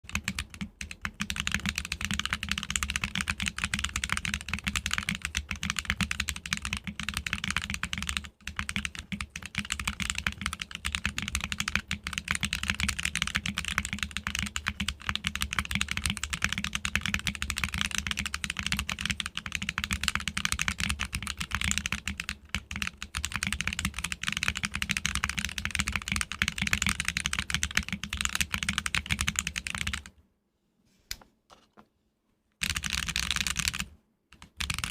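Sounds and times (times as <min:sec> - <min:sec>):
fast typing on mechanical keyboard: 0:00.1 - 0:30.1, 0:32.6 - 0:34.9.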